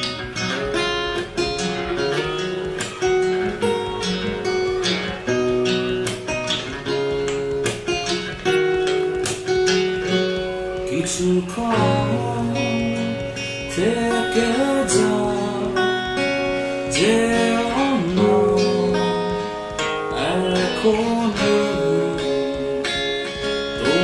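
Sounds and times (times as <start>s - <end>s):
guitar strummed through amplifier: 0.0s - 24.0s.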